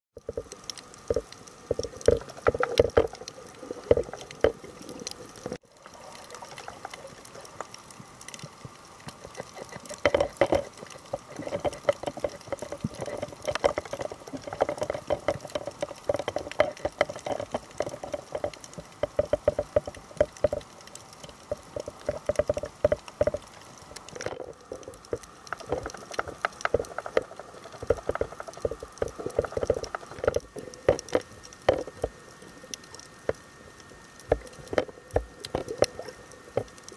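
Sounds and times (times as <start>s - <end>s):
dense crackle of clicks: 0.2s - 36.9s
underwater bubbling and sloshing: 0.2s - 36.9s.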